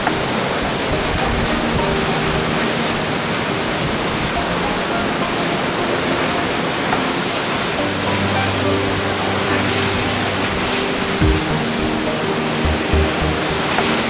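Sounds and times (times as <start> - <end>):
faint music: 0.0 - 14.0
waterfall roaring: 0.0 - 14.0.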